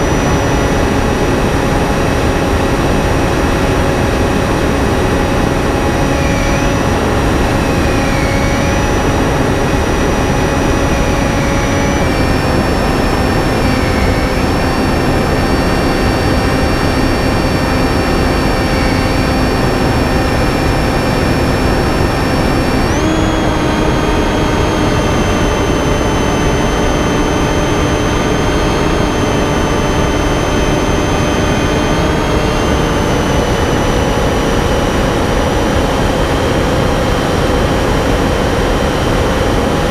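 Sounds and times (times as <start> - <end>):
electric motor propeller whining: 0.0 - 39.9.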